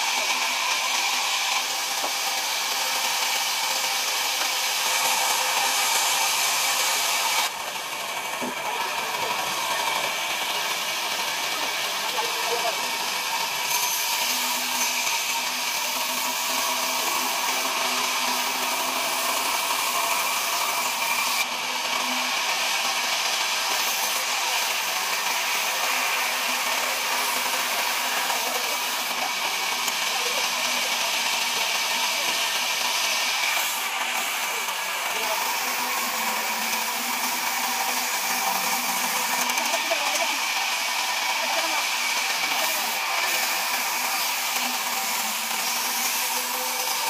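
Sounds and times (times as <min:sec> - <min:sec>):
band saw cutting through log: 0:00.0 - 0:47.0.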